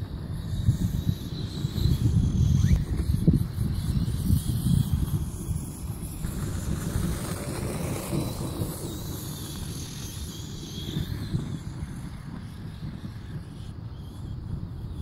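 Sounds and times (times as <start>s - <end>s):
electric motor whine: 0.0s - 13.9s
wind buffeting microphone: 0.0s - 15.0s.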